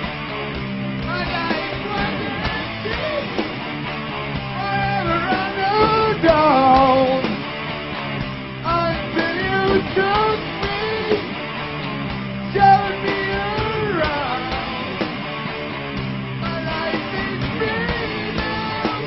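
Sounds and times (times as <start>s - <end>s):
rock song with singing: 0.0s - 19.0s.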